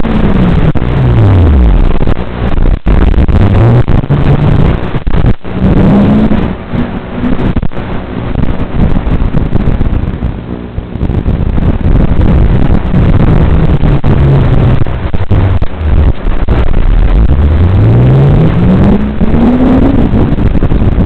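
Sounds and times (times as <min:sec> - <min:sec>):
loud motor rumbling: 0:00.0 - 0:21.0.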